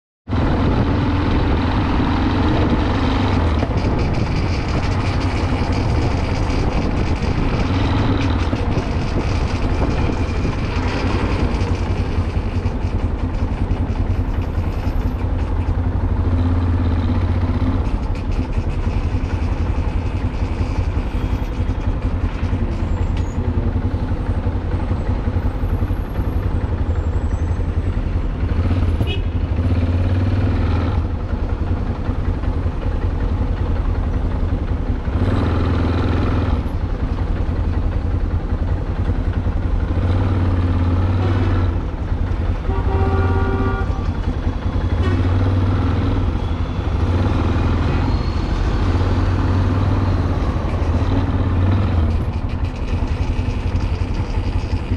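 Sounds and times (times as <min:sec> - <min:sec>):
road and traffic noise: 0:00.2 - 0:54.9
motorcycle engine drone: 0:00.3 - 0:54.9.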